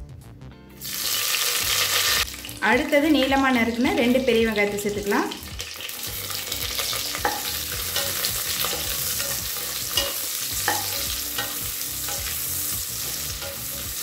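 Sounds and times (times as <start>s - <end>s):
onions sizzling in hot oil: 0.8s - 14.0s.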